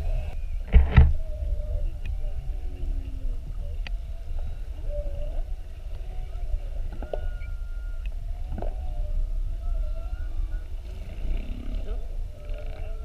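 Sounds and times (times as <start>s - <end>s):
low rumble of water: 0.0s - 13.0s
whale song: 0.0s - 13.0s.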